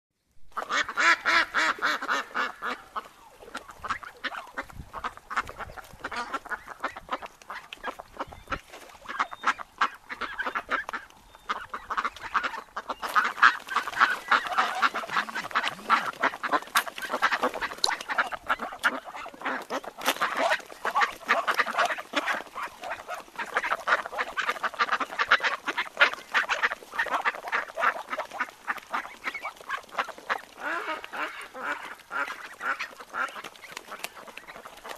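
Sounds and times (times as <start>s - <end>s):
ducks quacking: 0.5s - 34.9s.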